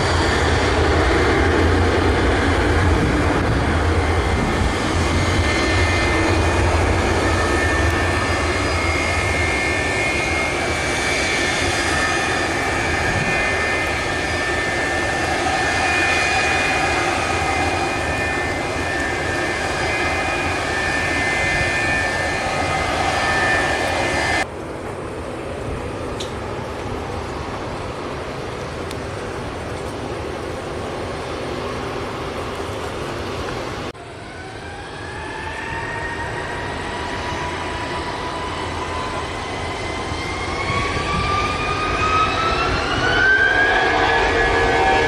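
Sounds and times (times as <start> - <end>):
jet engines whining: 0.0 - 45.0.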